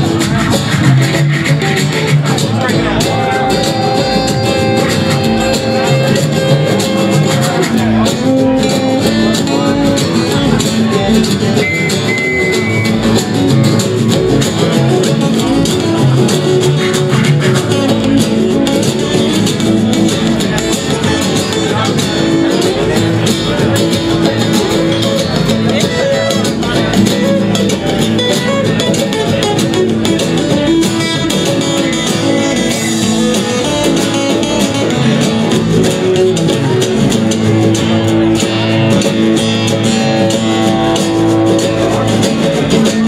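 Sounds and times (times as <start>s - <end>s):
banjo: 0.0s - 43.0s
strummed acoustic guitar: 0.0s - 43.0s
upright bass plucking: 0.0s - 43.0s.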